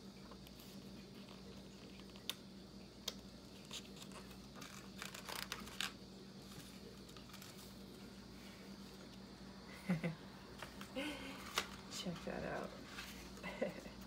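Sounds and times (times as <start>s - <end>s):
faint low hum: 0.0s - 14.0s
book pages turning: 0.3s - 2.4s, 3.0s - 9.2s, 10.5s - 13.4s.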